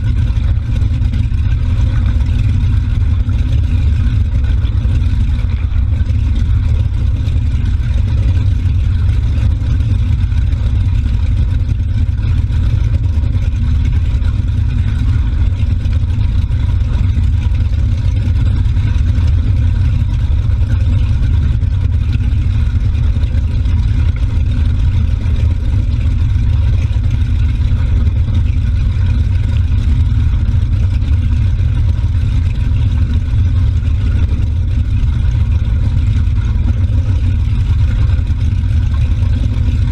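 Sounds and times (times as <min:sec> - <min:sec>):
motorboat engine drone: 0:00.0 - 0:39.9
wake churning: 0:00.0 - 0:39.9.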